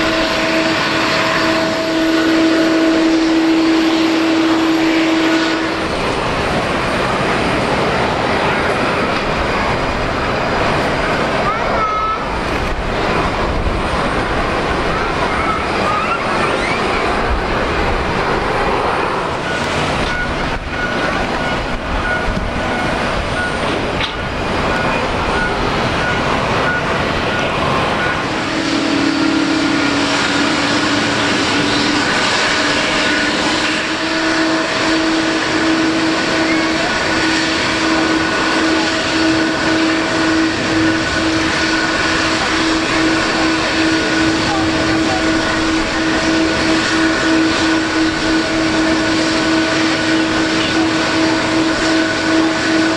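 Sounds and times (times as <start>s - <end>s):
jet engines running: 0.0s - 52.9s
steady multi-tone whine: 0.0s - 52.9s.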